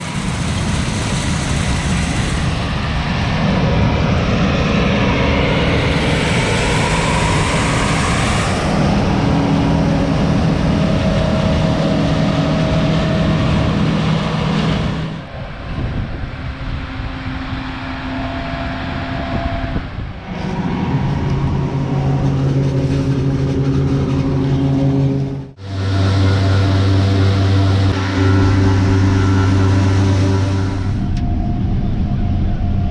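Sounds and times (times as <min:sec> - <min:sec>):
heavy farm machinery engines: 0:00.0 - 0:32.9.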